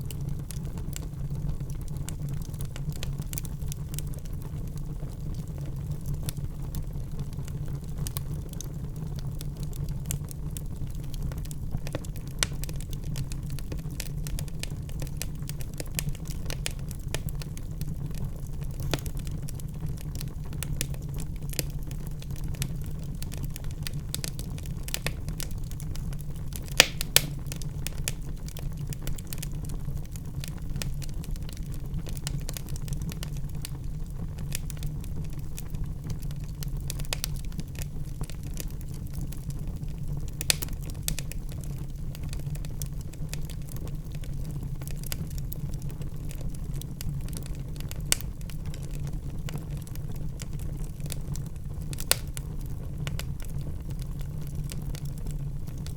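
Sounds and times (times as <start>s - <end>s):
burning logs popping: 0.0s - 55.9s
fire crackling: 0.0s - 55.9s.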